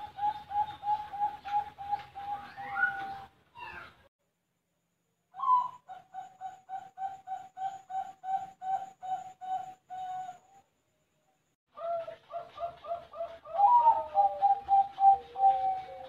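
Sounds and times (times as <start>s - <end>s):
dove cooing: 0.0s - 3.9s, 5.4s - 10.6s, 11.8s - 16.0s.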